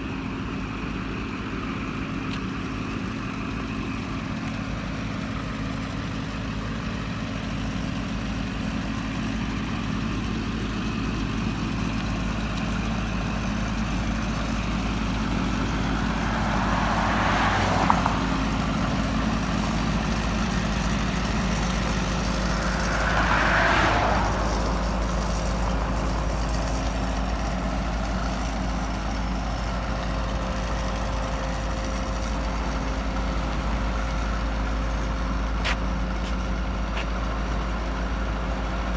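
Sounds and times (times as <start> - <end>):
idling engine hum: 0.0 - 38.9
vehicles passing by: 0.0 - 38.9.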